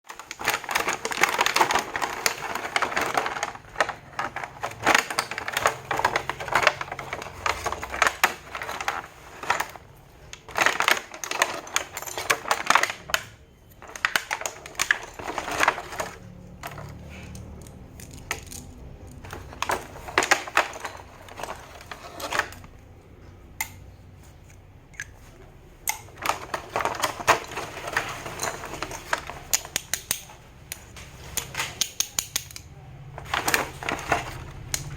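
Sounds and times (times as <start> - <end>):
cosmetic cases clicking and tapping: 0.1 - 22.8, 23.5 - 34.9
plastic packaging crinkling: 0.1 - 22.8, 24.7 - 30.1, 33.0 - 34.9.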